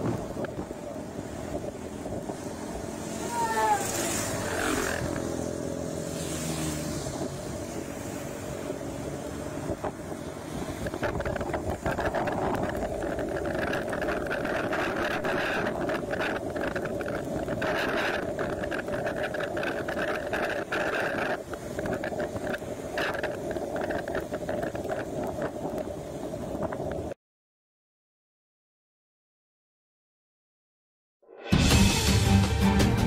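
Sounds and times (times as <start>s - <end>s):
rain: 0.0s - 27.2s
storm wind: 0.0s - 27.2s.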